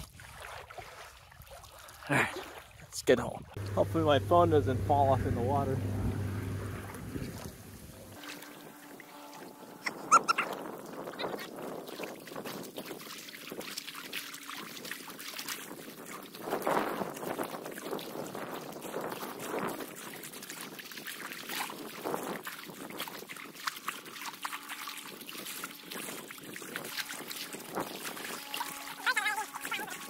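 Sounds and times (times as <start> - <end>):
rushing river water: 3.6 - 30.0.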